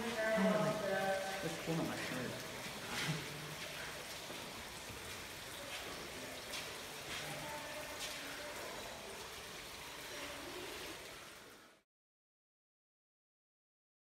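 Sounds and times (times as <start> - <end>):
small water splashes: 0.0 - 11.6
water trickling down a wall: 0.0 - 11.8.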